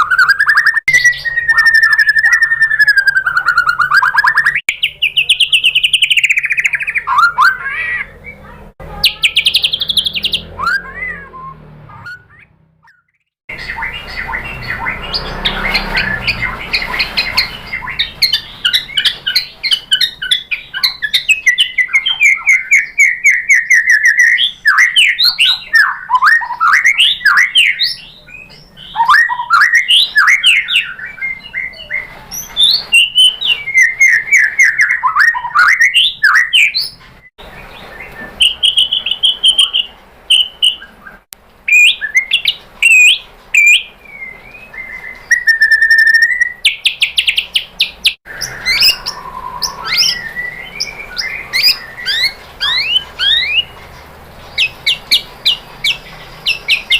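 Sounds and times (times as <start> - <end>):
songbird singing varied song: 0.0 - 56.9.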